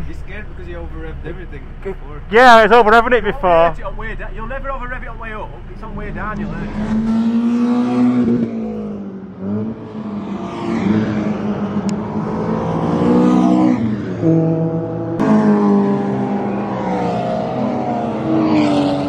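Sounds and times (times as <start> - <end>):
race car engine under load: 0.0 - 19.0.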